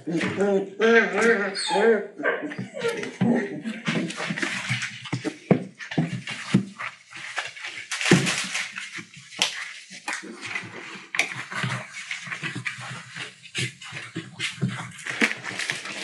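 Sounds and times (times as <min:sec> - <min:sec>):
puppies scrambling and scratching: 0:00.0 - 0:16.0.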